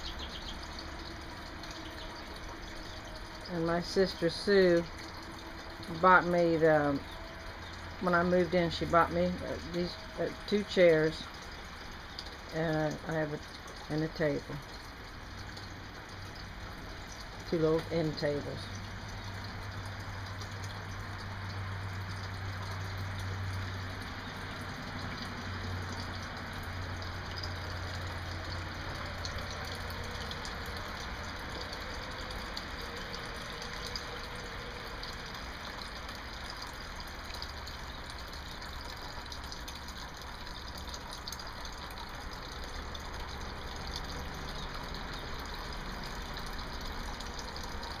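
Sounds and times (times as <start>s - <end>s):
water fountain splashing: 0.0s - 48.0s.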